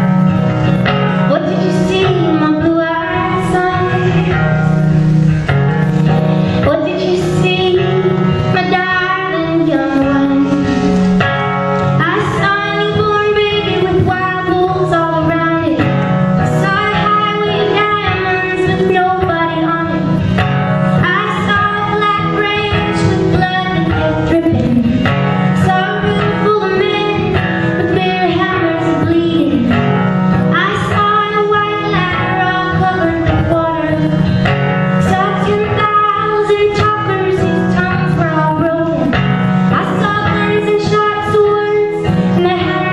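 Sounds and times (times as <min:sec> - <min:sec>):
woman singing: 0:01.3 - 0:04.4, 0:06.6 - 0:11.0, 0:12.0 - 0:20.2, 0:21.0 - 0:34.4, 0:35.0 - 0:42.9.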